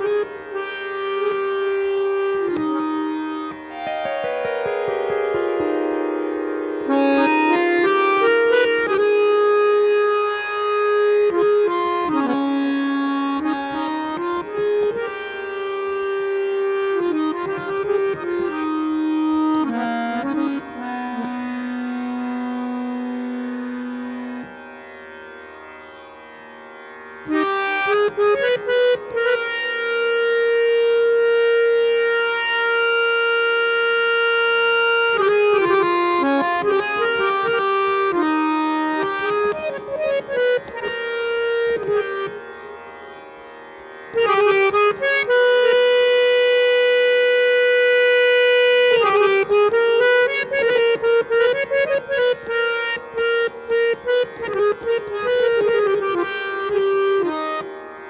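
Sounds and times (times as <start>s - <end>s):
harmonium playing: 0.0s - 58.0s.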